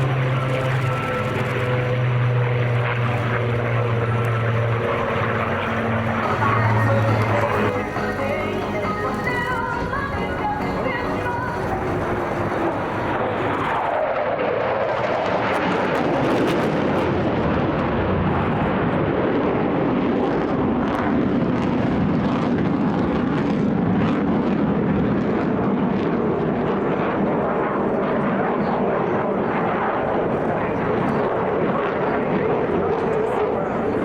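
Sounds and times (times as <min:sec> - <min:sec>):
propeller aircraft engine droning: 0:00.0 - 0:34.0.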